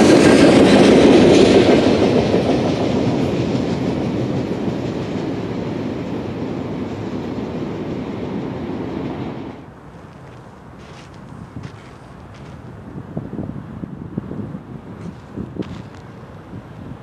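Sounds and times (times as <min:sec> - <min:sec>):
train rolling past: 0:00.0 - 0:17.0.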